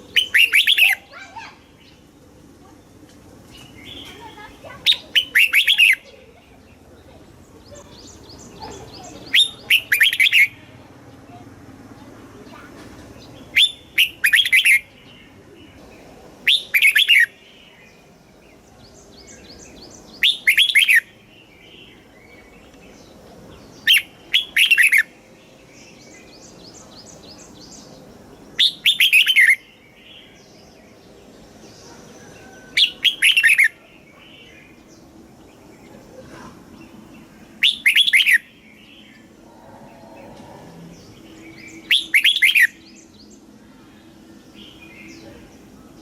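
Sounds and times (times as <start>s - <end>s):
soft bird twittering calls: 3.4s - 11.4s, 12.0s - 46.0s.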